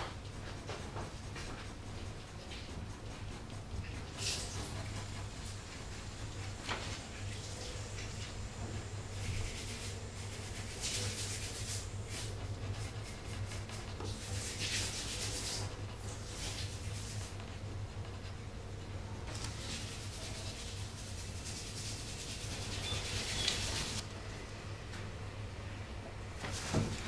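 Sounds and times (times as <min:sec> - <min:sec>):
pencil scratching on paper: 0:00.0 - 0:24.0
steady low hum: 0:00.0 - 0:27.0.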